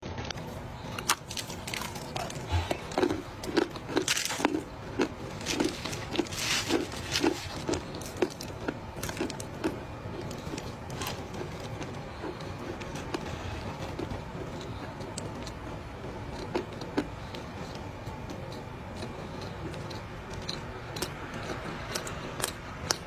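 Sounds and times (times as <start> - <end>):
chewing dry clay crunches: 0.3 - 23.0.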